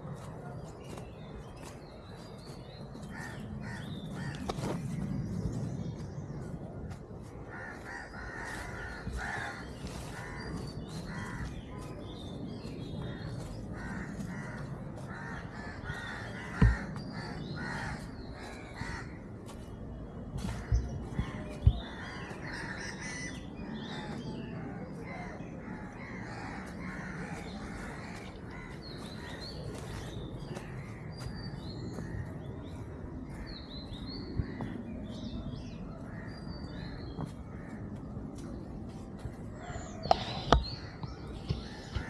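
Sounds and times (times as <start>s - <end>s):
birds calling: 0.0s - 42.0s.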